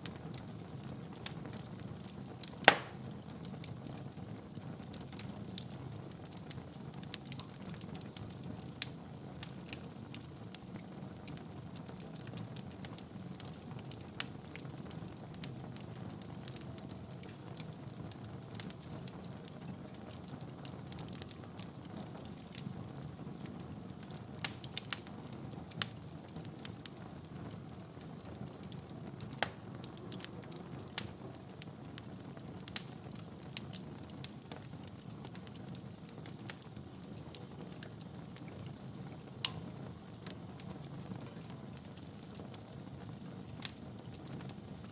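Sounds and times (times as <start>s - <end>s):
fire crackles and pops: 0.0s - 44.9s
low rumble of flames: 0.0s - 44.9s.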